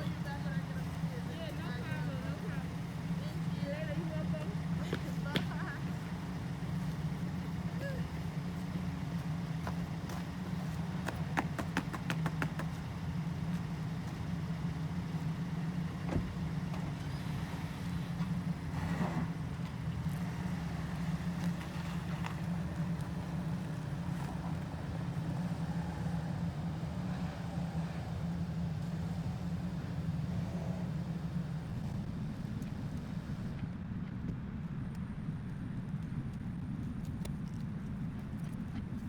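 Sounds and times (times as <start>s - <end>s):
car engine running: 0.0s - 33.7s.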